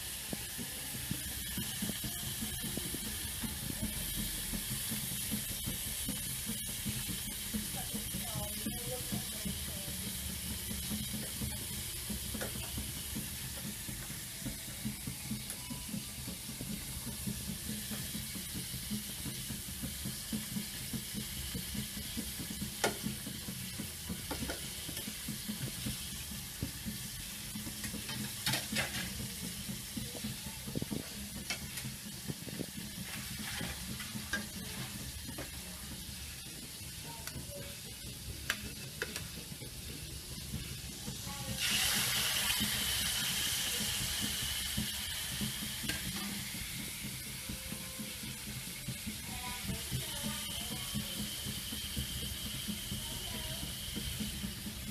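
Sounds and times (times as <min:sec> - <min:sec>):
steak sizzling in pan: 0:00.0 - 0:54.9.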